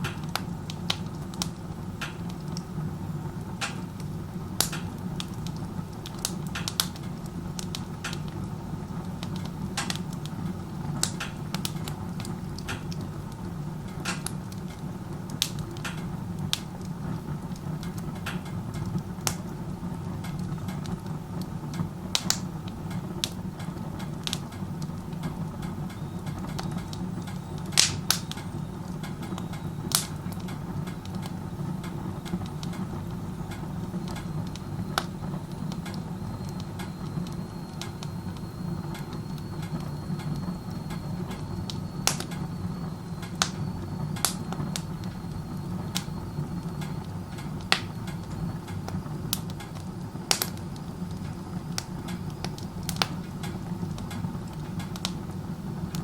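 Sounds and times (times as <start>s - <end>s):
low roar of chimney draft: 0.0s - 56.0s
wood crackling and popping: 0.0s - 56.0s.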